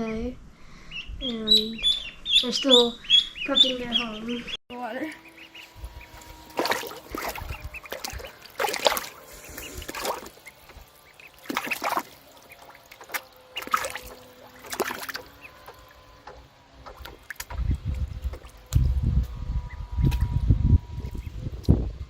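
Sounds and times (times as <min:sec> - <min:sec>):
ducklings splashing in water: 0:01.5 - 0:20.4.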